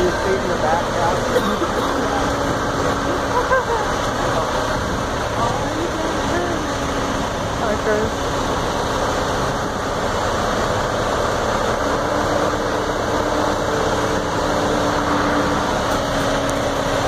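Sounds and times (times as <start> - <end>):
heavy engine running steadily: 0.0 - 17.0.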